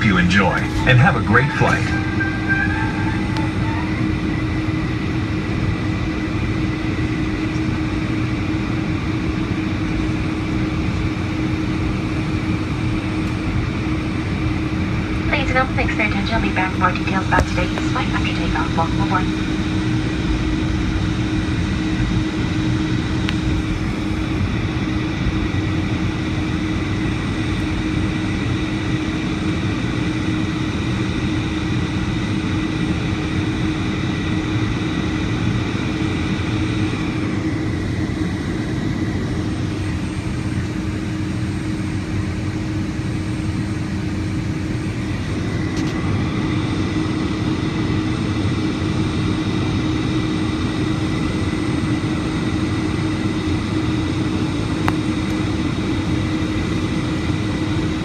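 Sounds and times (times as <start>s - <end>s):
jet engines in aircraft cabin: 0.0s - 58.0s.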